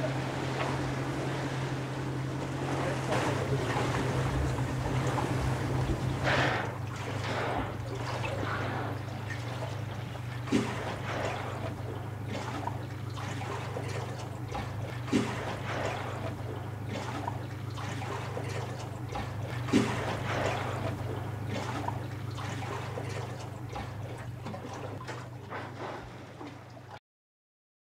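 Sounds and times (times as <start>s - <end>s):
steady low hum: 0.0s - 27.0s
water lapping against boat hull: 0.0s - 27.0s
water splashes: 0.0s - 27.0s.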